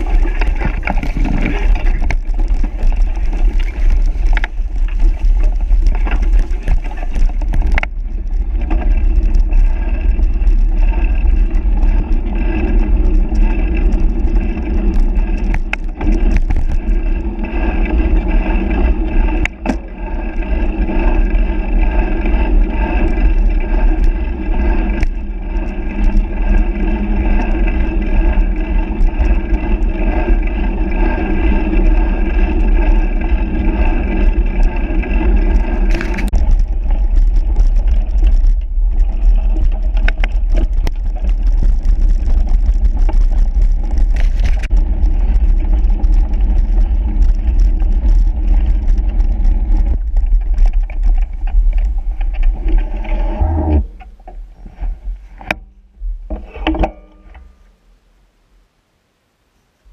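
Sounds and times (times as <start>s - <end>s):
vehicle engine running: 0.0s - 54.8s.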